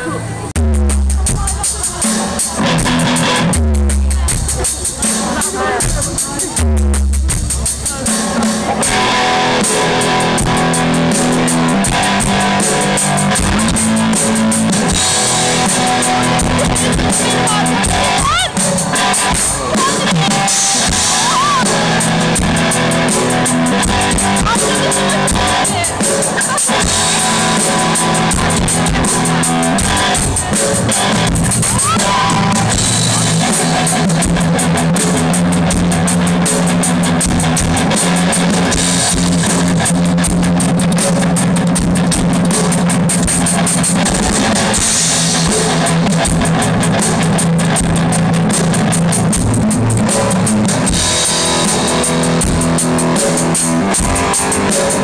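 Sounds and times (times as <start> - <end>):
rock band playing loudly: 0.0 - 55.0.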